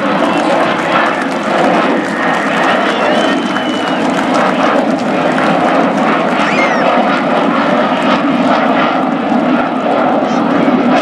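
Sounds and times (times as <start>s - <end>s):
jet engines flying over: 0.0s - 11.0s.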